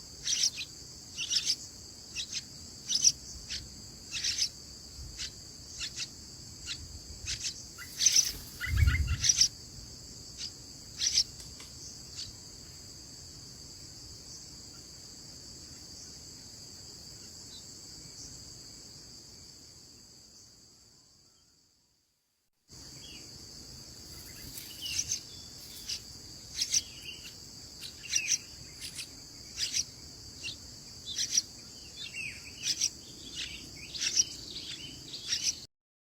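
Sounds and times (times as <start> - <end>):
high insect trill: 0.0 - 21.8, 22.7 - 35.7.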